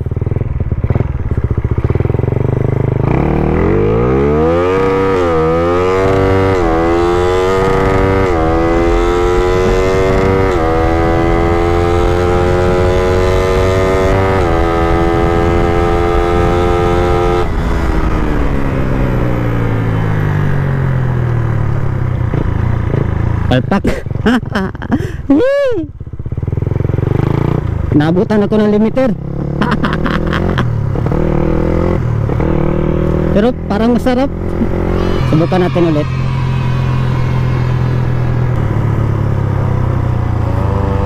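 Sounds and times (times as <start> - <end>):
motorcycle accelerating hard: 0.0 - 41.0.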